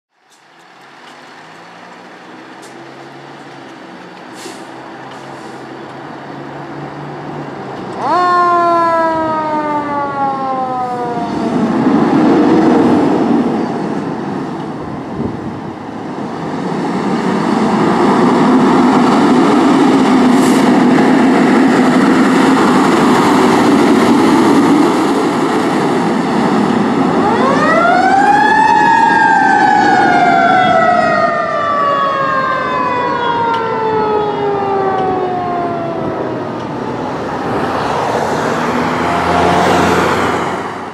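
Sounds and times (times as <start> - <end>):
fire engine engine noise: 0.1 - 40.9
fire engine siren: 2.0 - 15.9, 17.5 - 40.9.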